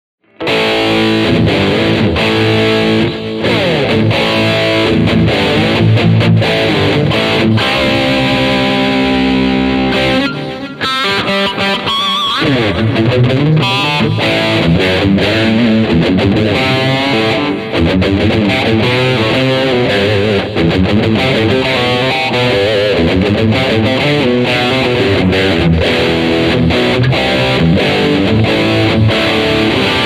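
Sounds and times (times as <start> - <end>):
distorted electric guitar riff: 0.2 - 30.0.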